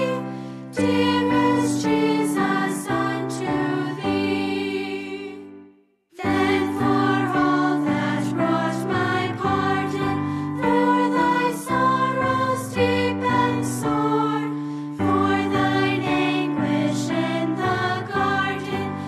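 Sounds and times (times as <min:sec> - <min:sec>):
slow hymn singing: 0:00.0 - 0:19.0.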